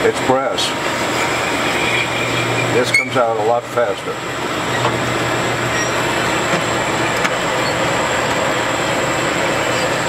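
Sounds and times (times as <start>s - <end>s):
honing machine grinding hiss: 0.5s - 10.0s.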